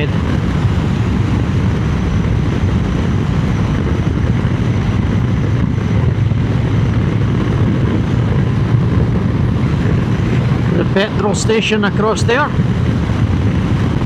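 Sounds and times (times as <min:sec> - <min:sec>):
motorcycle engine cruising: 0:00.0 - 0:14.0
wind over microphone: 0:00.0 - 0:14.0.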